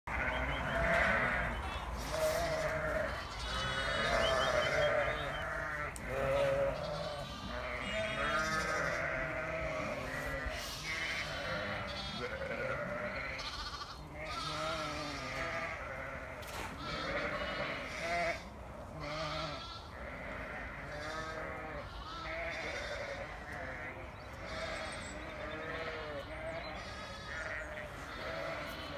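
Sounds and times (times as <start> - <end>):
sheep and lambs bleating: 0.1 - 28.9.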